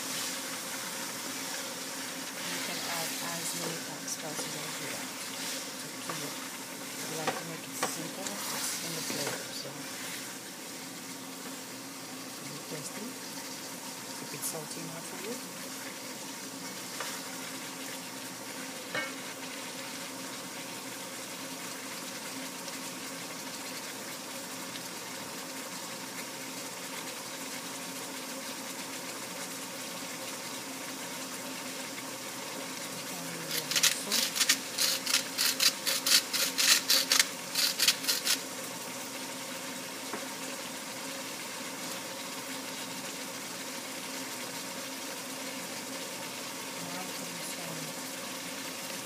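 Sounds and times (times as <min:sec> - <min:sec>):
vegetables sizzling in oil: 0:00.0 - 0:49.0.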